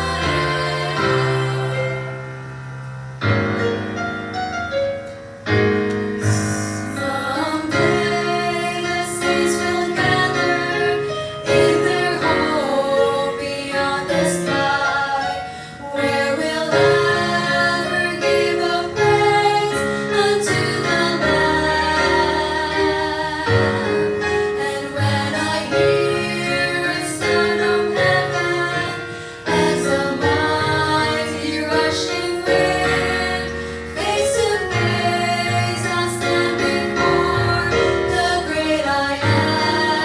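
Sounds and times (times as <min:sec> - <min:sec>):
vocal trio singing gospel harmony: 0:00.0 - 0:02.6, 0:06.2 - 0:40.0
piano accompaniment: 0:00.0 - 0:40.0.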